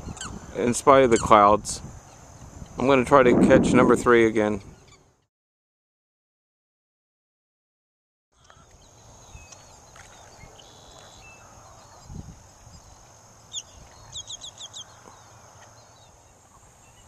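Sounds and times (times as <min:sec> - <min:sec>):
birds chirping: 0:00.0 - 0:05.3, 0:08.4 - 0:17.0.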